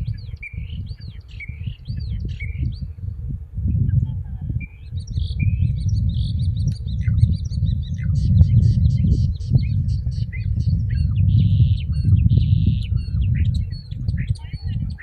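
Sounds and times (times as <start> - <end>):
starling singing: 0.0 - 3.0, 3.7 - 15.0.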